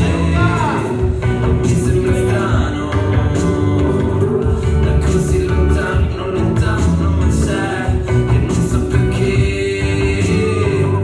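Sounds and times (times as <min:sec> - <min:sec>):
pop song with band: 0:00.0 - 0:11.0.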